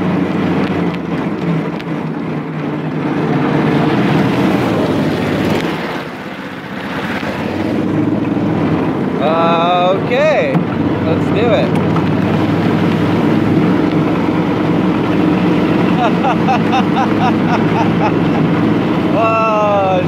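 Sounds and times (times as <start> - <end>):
go-kart engine running: 0.0 - 20.0.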